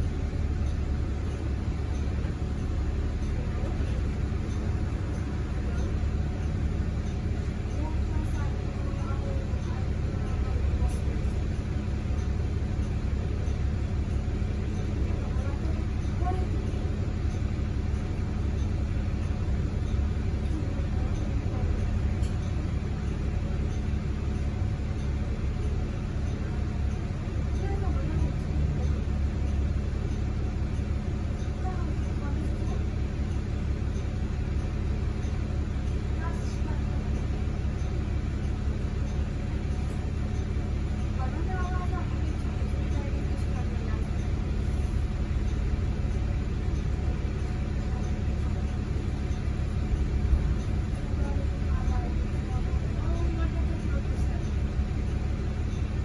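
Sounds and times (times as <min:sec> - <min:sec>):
bus drivetrain rumble: 0:00.0 - 0:56.0
road noise: 0:00.0 - 0:56.0.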